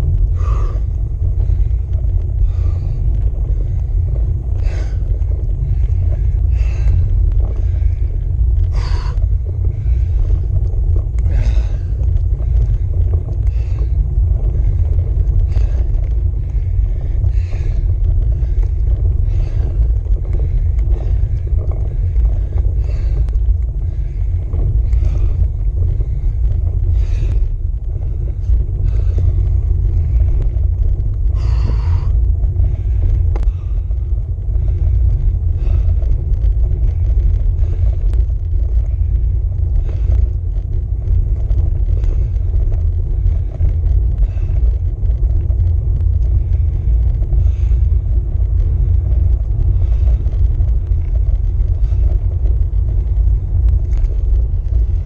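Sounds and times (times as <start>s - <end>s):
road vibration: 0.0s - 55.0s
wind buffeting microphone: 0.0s - 55.0s.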